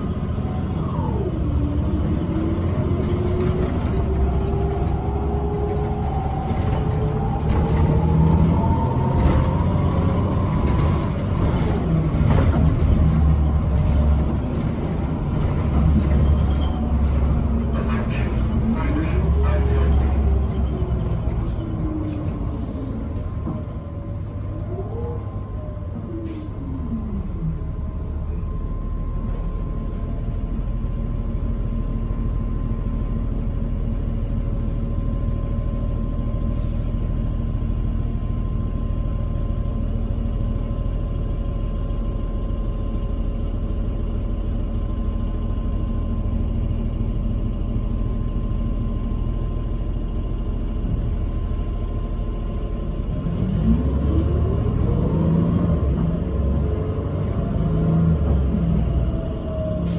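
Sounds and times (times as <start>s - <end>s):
bus engine with whine: 0.0s - 59.9s.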